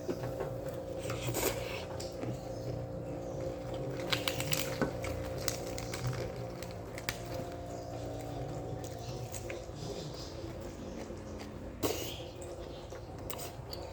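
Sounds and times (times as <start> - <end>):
steady hum: 0.0 - 13.9
eating clicks and smacks: 1.1 - 13.9.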